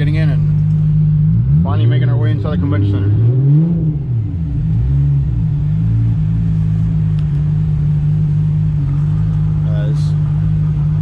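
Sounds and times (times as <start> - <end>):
car engine running at low speed: 0.0 - 11.0.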